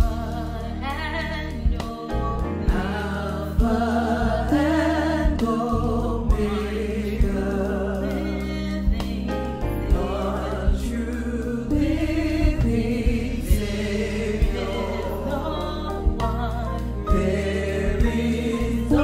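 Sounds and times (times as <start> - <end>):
drum kit: 0.0 - 19.0
electric bass guitar: 0.0 - 19.0
vocal group singing in harmony: 0.0 - 19.0.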